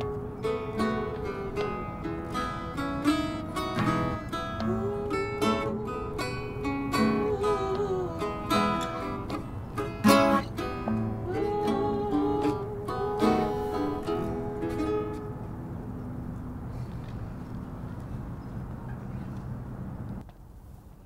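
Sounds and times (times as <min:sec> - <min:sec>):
guitar plucking and strumming: 0:00.0 - 0:16.9
low background hiss: 0:00.0 - 0:21.0.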